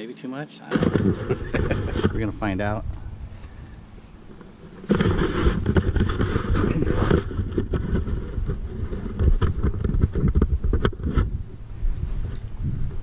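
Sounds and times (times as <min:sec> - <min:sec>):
camera handling rumble: 0:00.8 - 0:13.0.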